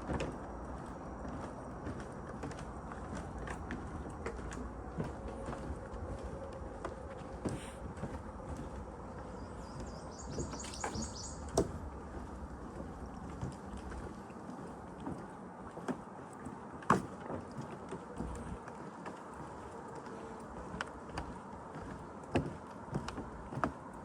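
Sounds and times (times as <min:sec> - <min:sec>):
footsteps on a trail: 0:00.0 - 0:24.0.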